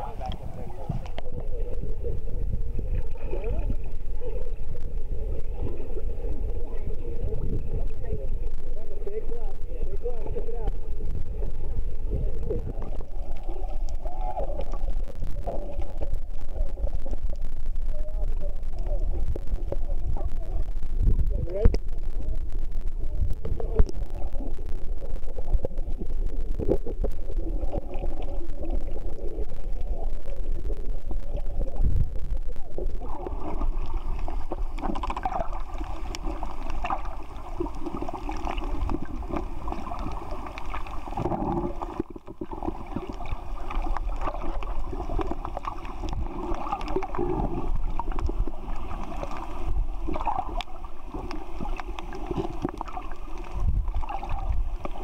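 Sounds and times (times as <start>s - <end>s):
underwater sloshing and bubbling: 0.0s - 55.0s.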